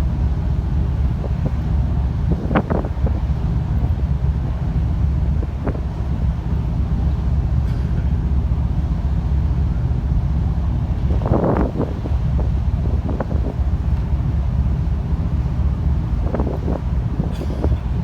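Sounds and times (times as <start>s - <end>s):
ship engines rumbling: 0.0s - 18.0s
wind buffeting microphone: 0.0s - 18.0s.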